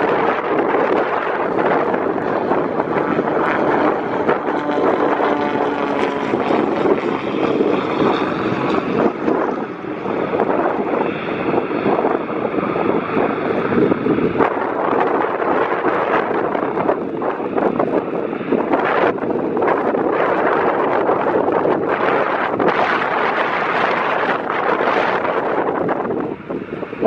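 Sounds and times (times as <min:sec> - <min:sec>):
propeller plane engines running: 0:00.0 - 0:27.0
wind buffeting microphone: 0:00.0 - 0:27.0.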